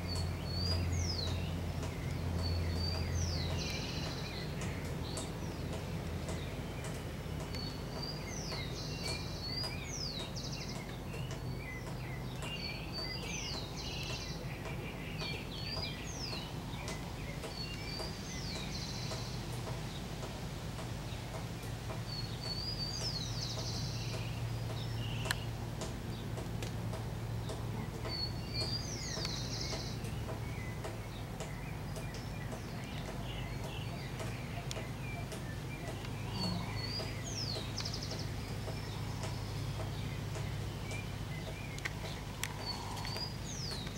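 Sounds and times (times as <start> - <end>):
bird chirps: 0.0 - 20.0, 21.4 - 26.3, 27.4 - 43.9
steady low hum: 0.0 - 43.9.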